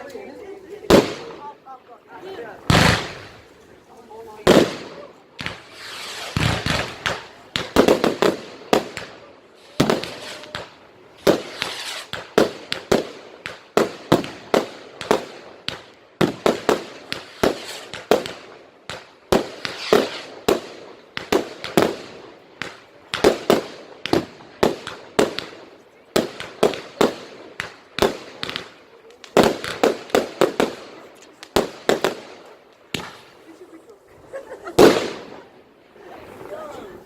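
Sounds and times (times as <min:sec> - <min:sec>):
fireworks bangs: 0:00.8 - 0:01.6, 0:02.3 - 0:35.6
fireworks hissing crackle: 0:02.6 - 0:37.0.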